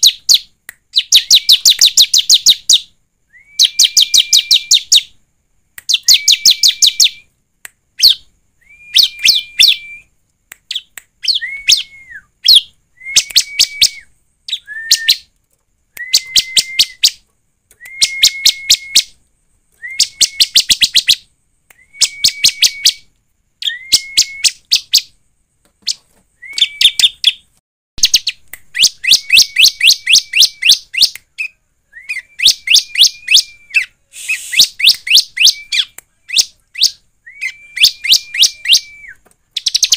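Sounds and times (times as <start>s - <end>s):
bird singing ticking notes: 0.0s - 5.2s, 5.8s - 25.2s, 25.8s - 34.0s, 34.6s - 39.9s.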